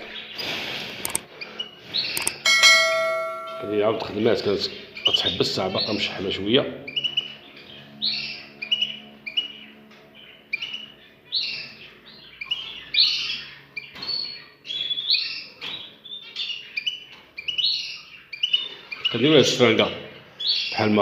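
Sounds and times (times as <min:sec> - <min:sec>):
cage birds chirping: 0:00.0 - 0:21.0.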